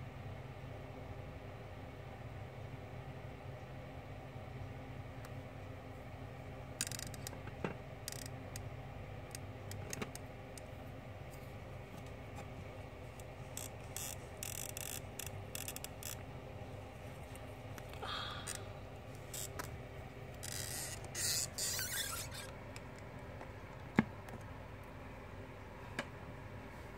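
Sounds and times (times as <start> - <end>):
low room hum: 0.0 - 26.9.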